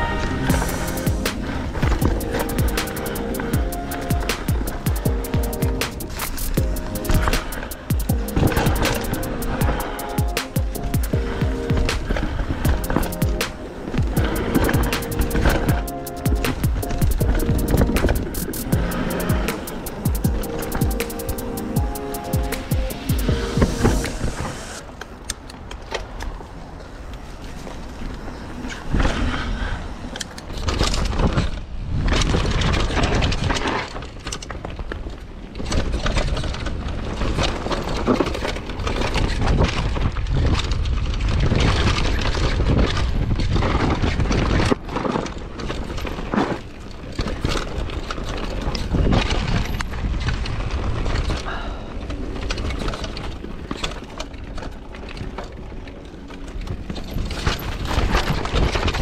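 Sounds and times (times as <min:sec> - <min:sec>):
wind rumbling on microphone: 0:00.0 - 0:21.0, 0:22.6 - 0:59.0
bike knocking and rattling: 0:00.0 - 0:59.0.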